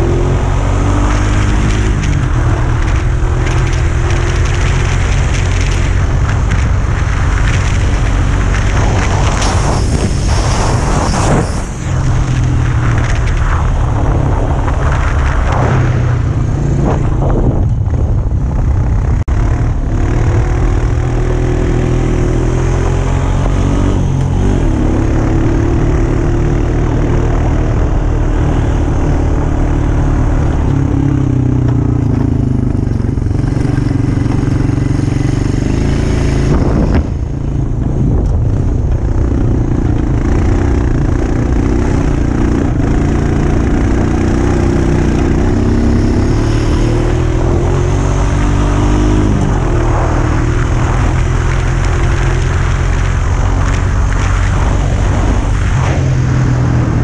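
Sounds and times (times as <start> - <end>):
atv engine revving: 0.0 - 17.9, 18.7 - 57.0.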